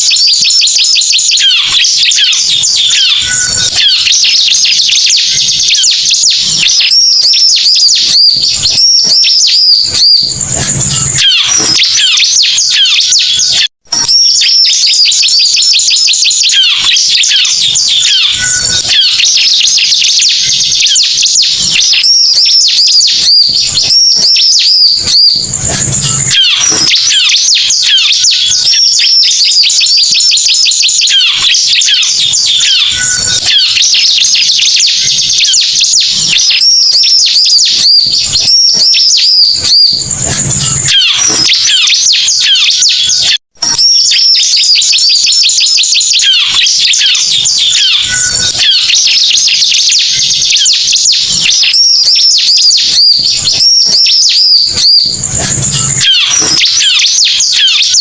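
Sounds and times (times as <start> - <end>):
bird chirps and trills: 0.0 - 58.0.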